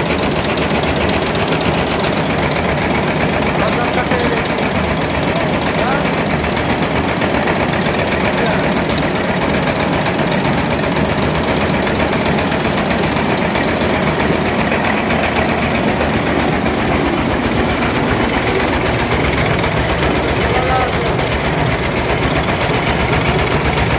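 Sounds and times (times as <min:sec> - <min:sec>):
shredding machine rattling: 0:00.0 - 0:23.9.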